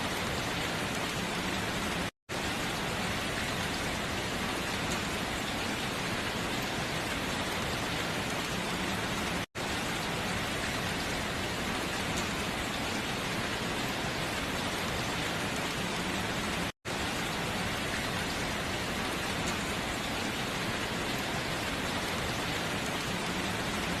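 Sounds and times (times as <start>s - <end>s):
heavy rain on window glass: 0.0s - 24.0s.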